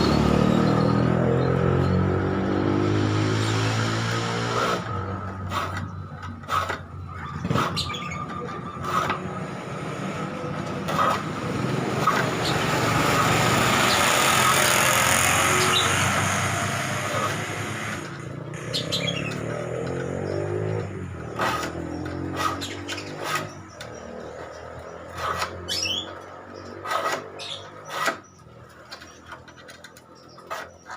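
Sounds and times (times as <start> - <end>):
motor vehicle passing: 0.0 - 29.5.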